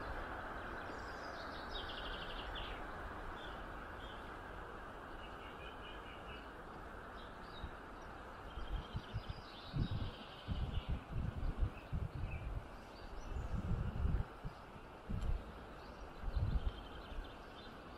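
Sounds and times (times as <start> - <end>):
small birds chirping: 0.0 - 17.9
steady background hiss: 0.0 - 17.9.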